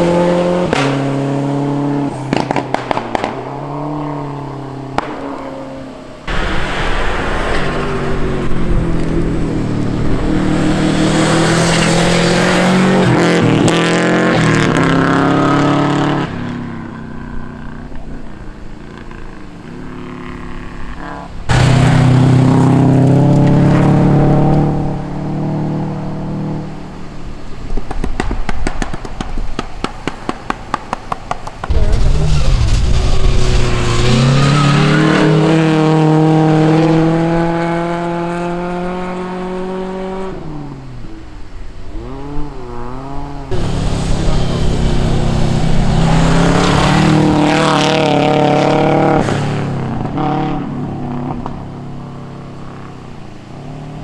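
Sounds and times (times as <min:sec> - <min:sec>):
rally car engines revving: 0:00.0 - 0:27.1, 0:30.8 - 0:54.0.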